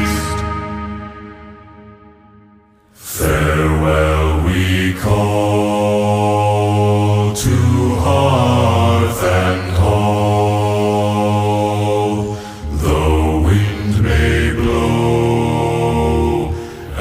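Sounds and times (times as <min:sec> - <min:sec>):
deep male voices chanting: 0:03.0 - 0:17.0.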